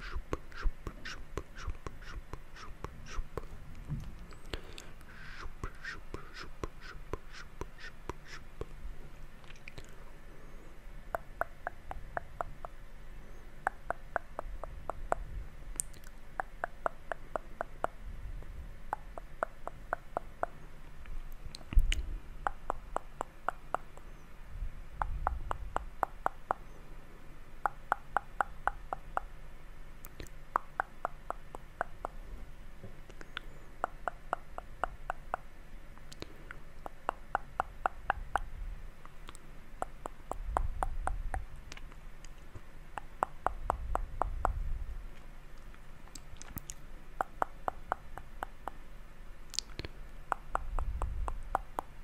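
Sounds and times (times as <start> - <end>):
tongue and lip clicks: 0.0 - 8.8, 9.4 - 10.0, 11.1 - 12.8, 13.6 - 24.2, 25.0 - 26.8, 27.6 - 29.4, 30.0 - 32.3, 33.1 - 48.9, 49.5 - 52.0.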